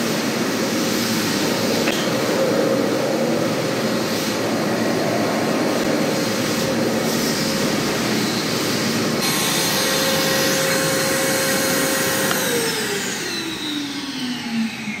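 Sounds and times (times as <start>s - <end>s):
shop vacuum running: 0.0s - 15.0s.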